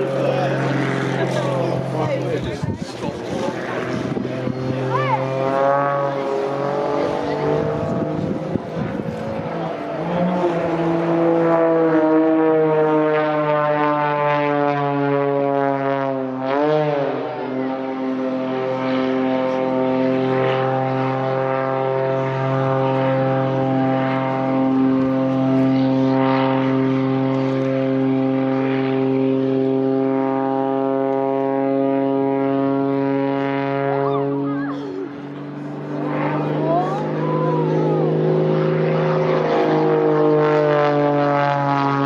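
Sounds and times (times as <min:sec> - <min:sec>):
propeller aircraft engine droning: 0:00.0 - 0:42.0.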